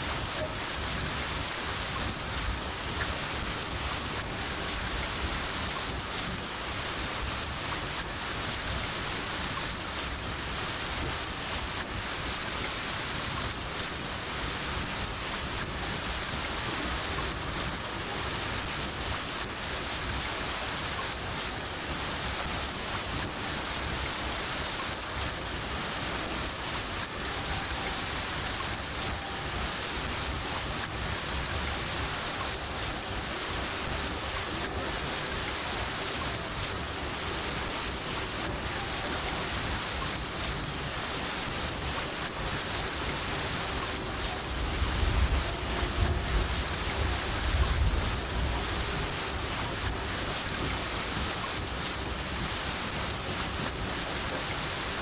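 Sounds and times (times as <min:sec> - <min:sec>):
crickets chirping: 0:00.0 - 0:55.0
steady rain: 0:00.0 - 0:55.0.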